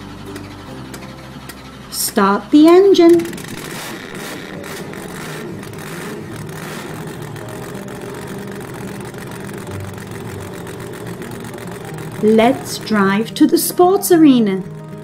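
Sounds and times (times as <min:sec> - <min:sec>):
cartoon truck engine idling: 0:00.0 - 0:15.0.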